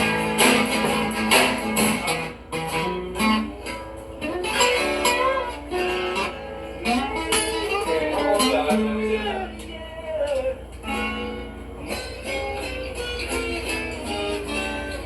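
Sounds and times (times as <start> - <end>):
picked lead guitar melody: 0.0 - 15.0
strummed guitar chords: 0.0 - 15.0.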